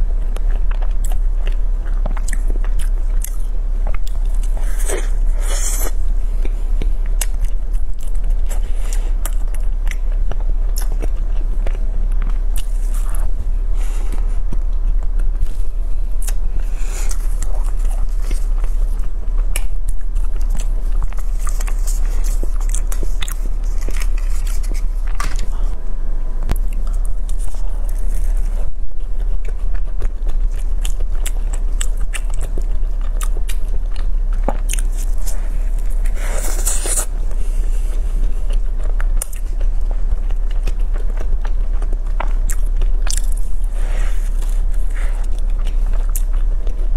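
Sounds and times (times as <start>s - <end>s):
crunchy chewing of pastry: 0.0s - 46.9s
steady low hum: 0.0s - 46.9s.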